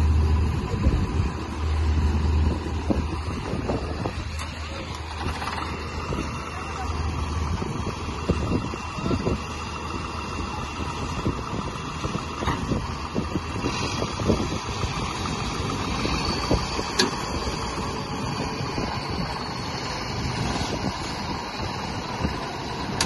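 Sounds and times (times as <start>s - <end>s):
diesel engines rumbling under load: 0.0s - 23.0s.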